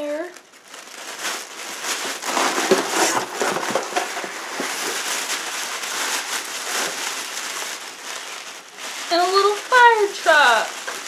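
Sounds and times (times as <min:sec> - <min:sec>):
wrapping crinkling and rustling: 0:00.0 - 0:11.0.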